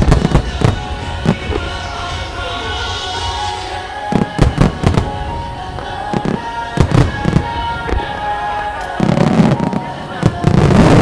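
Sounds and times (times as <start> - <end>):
fireworks bursting: 0.0 - 11.0
music from loudspeakers: 0.0 - 11.0.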